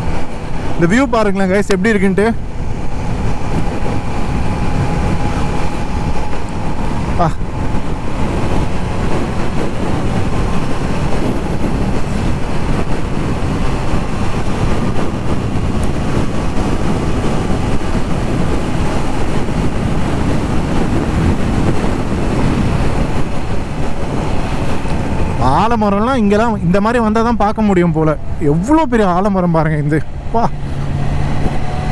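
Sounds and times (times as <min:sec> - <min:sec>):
motorcycle engine running: 0:00.0 - 0:26.6
road noise: 0:00.0 - 0:31.9
wind rush on microphone: 0:00.0 - 0:31.9.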